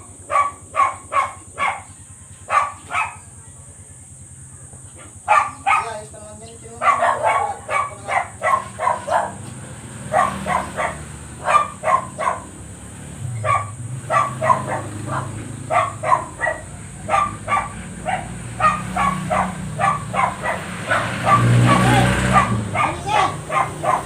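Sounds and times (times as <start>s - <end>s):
dog barking: 0.0s - 3.8s, 4.6s - 6.1s, 6.7s - 12.6s, 13.3s - 24.0s.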